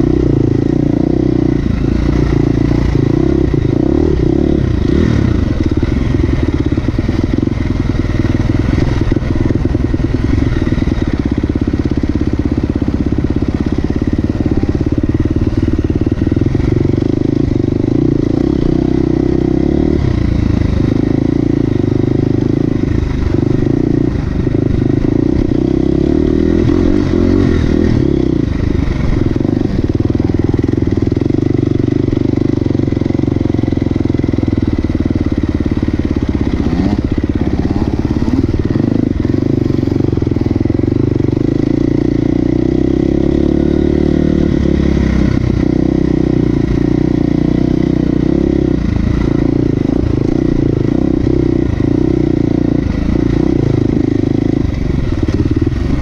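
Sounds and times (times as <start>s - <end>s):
motorcycle engine droning: 0.0s - 56.0s.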